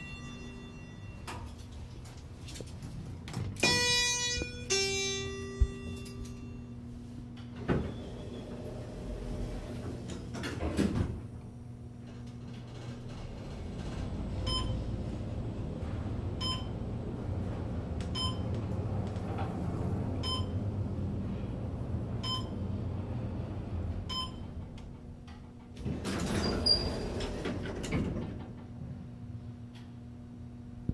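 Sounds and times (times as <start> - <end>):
elevator doors sliding: 0.0 - 6.5, 7.3 - 11.4, 12.0 - 29.4
elevator low hum: 0.0 - 30.9.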